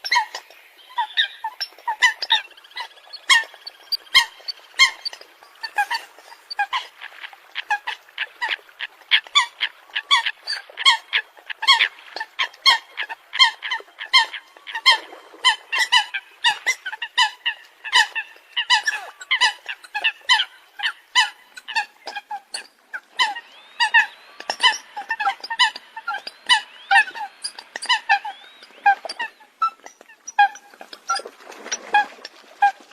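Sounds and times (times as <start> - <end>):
coots calling: 0.0 - 31.2.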